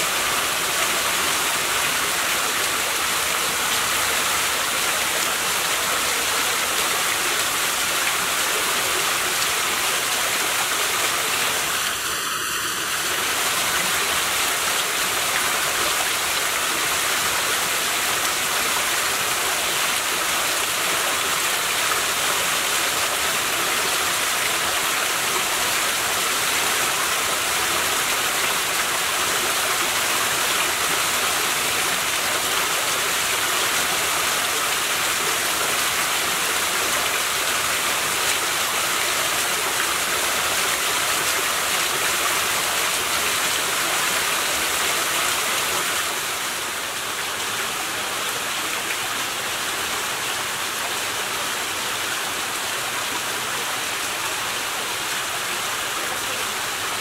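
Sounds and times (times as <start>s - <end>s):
waterfall splashing over rocks: 0.0s - 57.0s.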